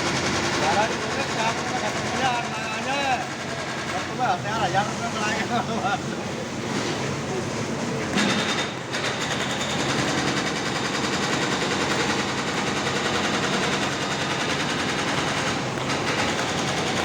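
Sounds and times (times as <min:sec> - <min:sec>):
wire saw cutting concrete: 0:00.0 - 0:04.9, 0:08.1 - 0:17.0.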